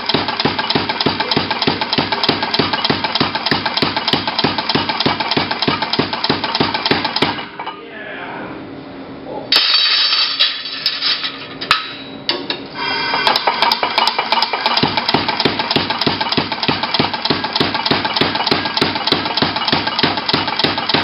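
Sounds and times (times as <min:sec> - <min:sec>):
power hammer striking steel: 0:00.0 - 0:07.7, 0:09.5 - 0:21.0.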